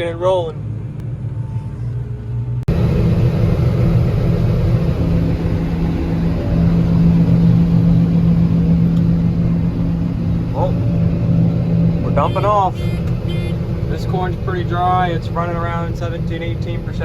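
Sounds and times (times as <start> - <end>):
combine harvester engine hum: 0.0 - 17.0
droning low tone: 0.0 - 17.0.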